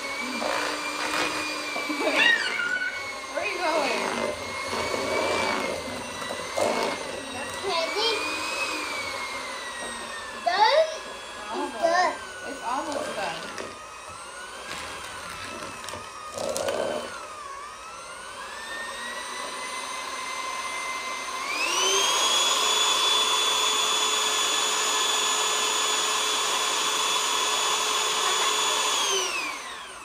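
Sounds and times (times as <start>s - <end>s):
electric mixer motor whining: 0.0s - 30.0s.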